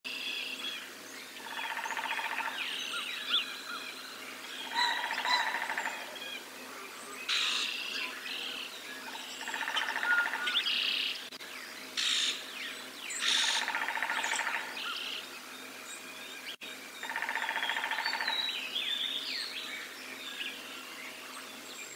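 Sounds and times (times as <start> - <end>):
songbirds singing and calling: 0.1 - 21.9.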